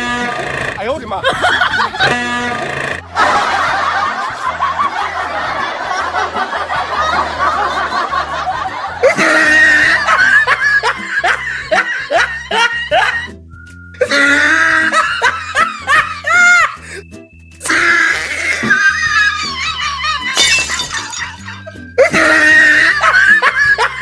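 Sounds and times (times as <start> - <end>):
background music with steady beat: 0.0 - 20.4
crowd laughing: 1.2 - 13.3, 14.1 - 17.0, 18.2 - 24.0.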